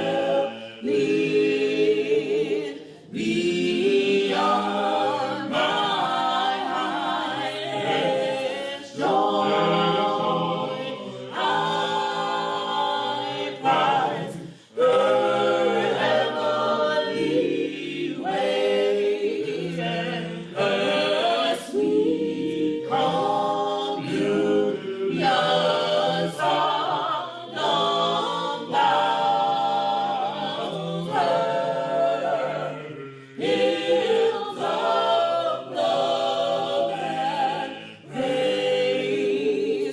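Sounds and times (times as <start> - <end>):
choir singing a cappella gospel: 0.0 - 39.9.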